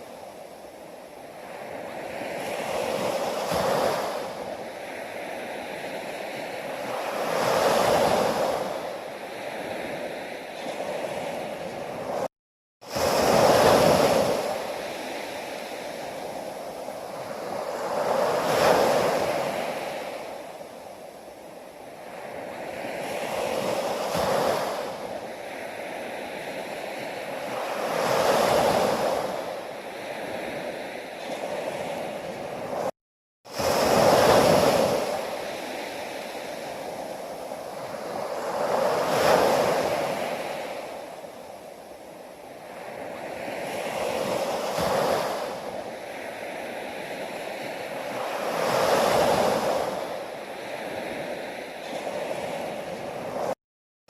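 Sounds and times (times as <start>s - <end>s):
ocean waves washing in: 0.0s - 32.9s, 33.5s - 53.6s.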